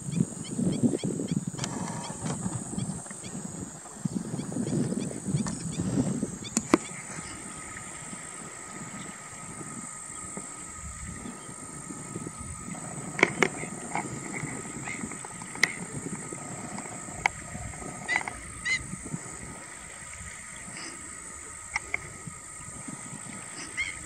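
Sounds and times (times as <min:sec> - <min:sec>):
steady high-pitched hum: 0:00.0 - 0:24.0
terns calling: 0:00.0 - 0:24.0.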